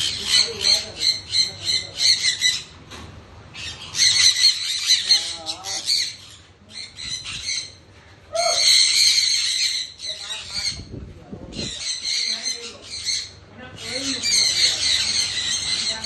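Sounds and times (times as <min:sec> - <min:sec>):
parrots screeching: 0:00.0 - 0:02.8, 0:03.5 - 0:10.9, 0:11.5 - 0:16.0.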